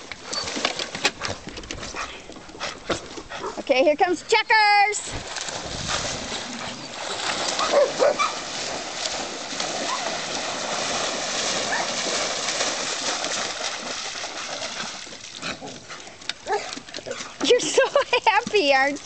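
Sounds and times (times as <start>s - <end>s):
dogs splashing in water: 0.0s - 3.7s, 5.0s - 19.0s.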